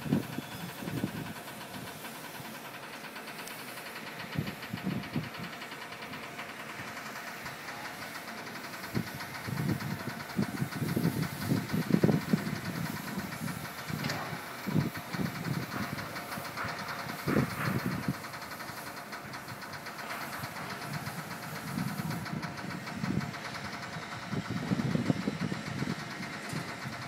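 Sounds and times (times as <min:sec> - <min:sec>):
machine engine ticking: 0:00.0 - 0:27.0.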